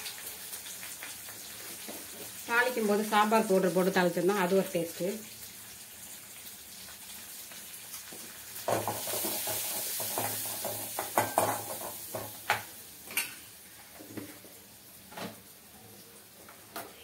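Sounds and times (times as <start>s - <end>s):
spices sizzling in a pan: 0.0s - 17.0s.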